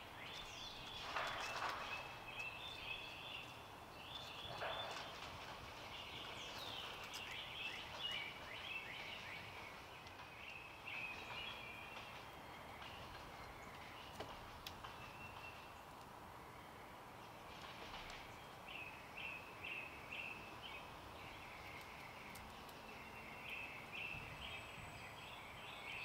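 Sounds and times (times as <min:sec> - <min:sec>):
songbirds chirping and singing: 0:00.0 - 0:26.0.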